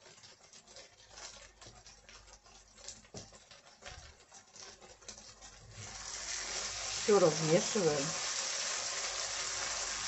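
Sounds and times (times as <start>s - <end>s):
vegetables frying in oil: 0.0s - 10.0s.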